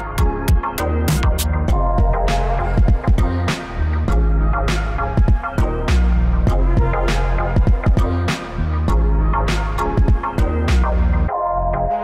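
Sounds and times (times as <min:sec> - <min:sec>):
electronic music with bass and drums: 0:00.0 - 0:12.0.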